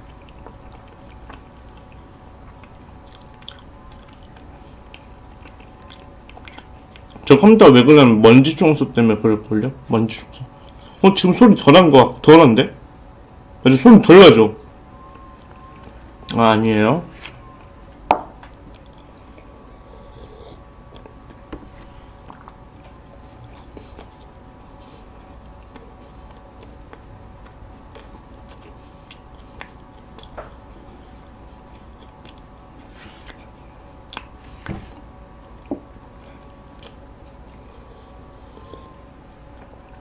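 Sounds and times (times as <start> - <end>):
chewing soft cakes: 0.0 - 12.4, 13.7 - 40.0
faint steady hum: 0.0 - 40.0.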